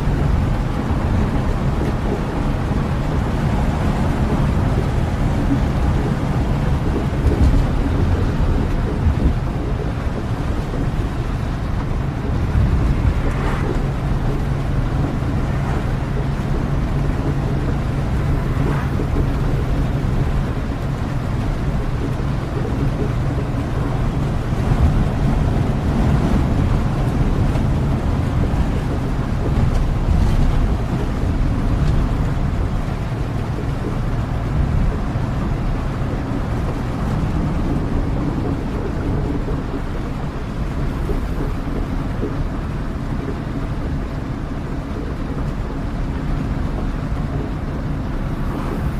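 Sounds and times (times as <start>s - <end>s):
deep rumble: 0.0s - 48.9s
steady rain: 0.0s - 48.9s.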